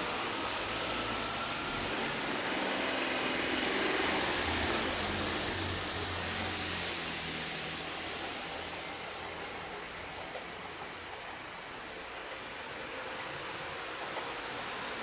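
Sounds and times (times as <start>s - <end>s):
electric train running: 0.0s - 15.0s.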